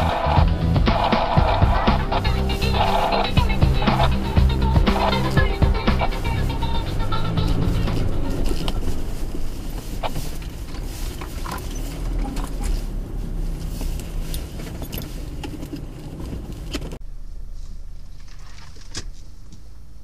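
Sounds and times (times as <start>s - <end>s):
off-road vehicle engine rumble: 0.0s - 20.0s.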